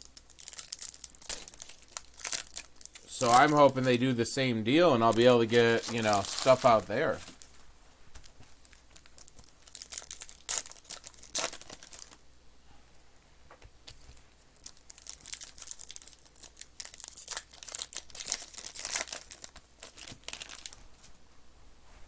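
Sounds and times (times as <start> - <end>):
foil wrappers crinkling and tearing: 0.0 - 4.2, 4.8 - 12.2, 14.1 - 21.1.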